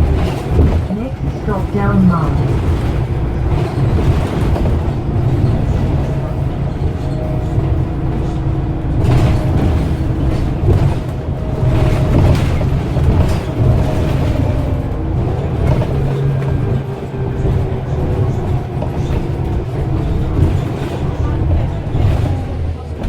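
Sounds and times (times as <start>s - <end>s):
bus diesel engine rumbling: 0.0s - 23.0s.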